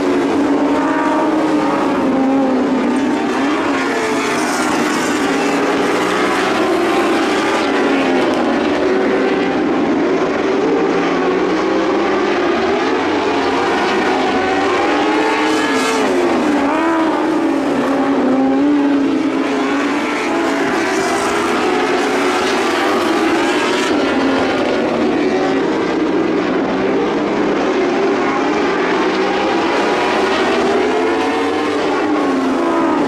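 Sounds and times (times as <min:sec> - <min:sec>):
racing car engines revving: 0:00.0 - 0:33.0.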